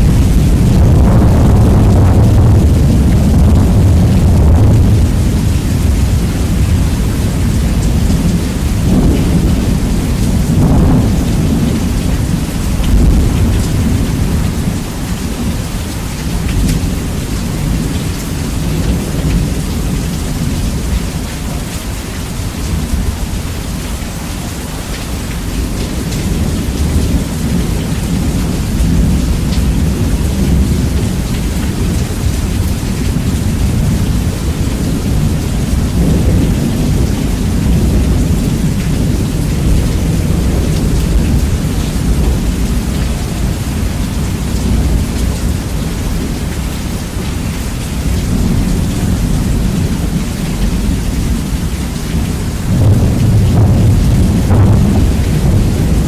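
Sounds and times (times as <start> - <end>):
heavy rain: 0.0 - 56.0
rumbling thunder: 0.0 - 56.0.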